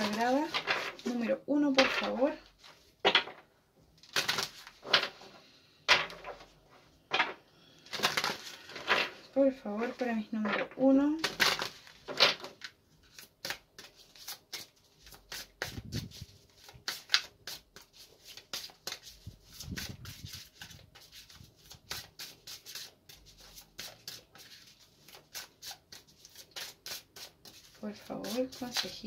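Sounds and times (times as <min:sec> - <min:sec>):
cards being shuffled: 0:00.0 - 0:03.2, 0:04.0 - 0:05.2, 0:07.9 - 0:09.2, 0:11.2 - 0:29.0.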